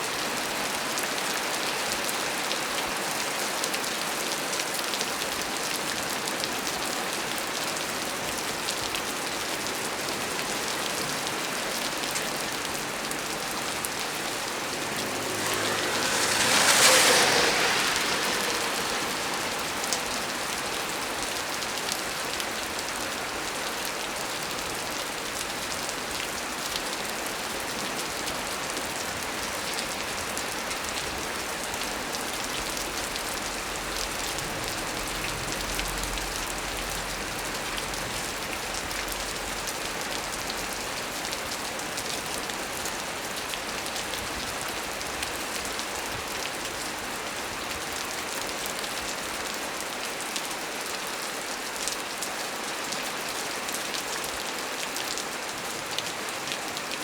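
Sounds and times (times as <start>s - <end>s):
heavy rain on tree: 0.0s - 57.0s.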